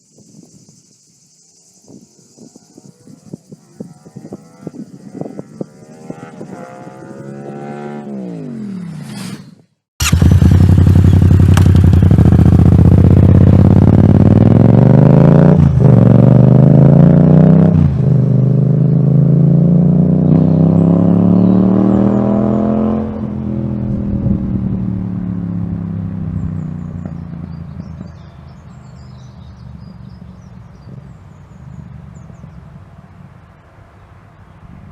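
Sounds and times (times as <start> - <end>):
motorcycle accelerating hard: 2.8 - 33.4.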